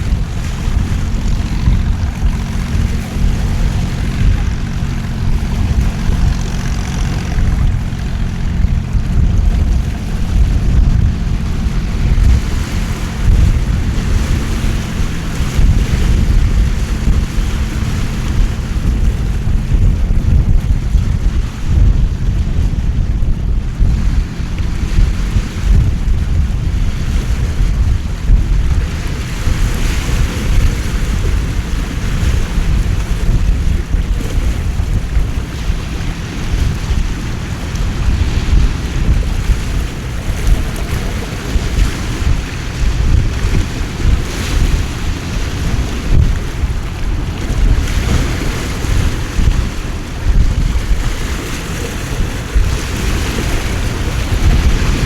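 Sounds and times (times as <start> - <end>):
faint low engine drone: 0.0 - 55.0
wind rumbling on microphone: 0.0 - 55.0.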